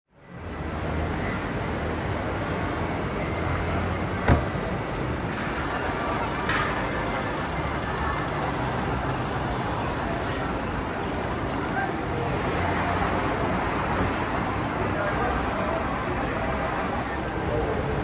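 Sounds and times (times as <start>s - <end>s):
traffic rumble: 0.1s - 18.0s.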